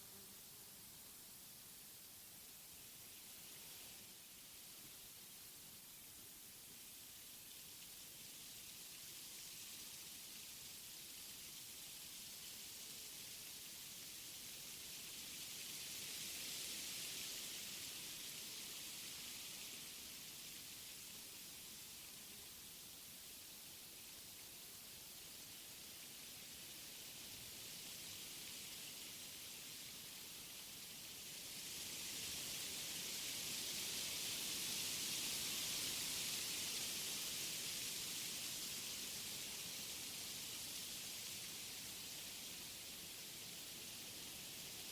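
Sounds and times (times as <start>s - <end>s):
wind rustling tree foliage: 0.0s - 44.9s.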